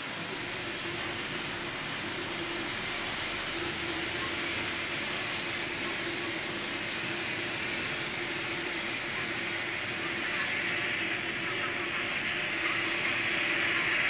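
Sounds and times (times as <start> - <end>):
model train running hum and hiss: 0.0 - 14.0.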